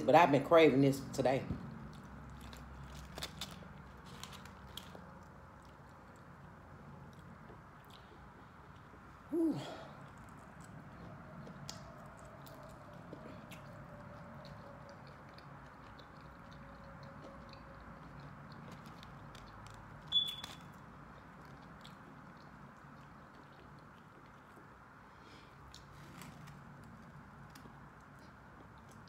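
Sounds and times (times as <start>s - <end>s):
person chewing: 1.6s - 29.0s.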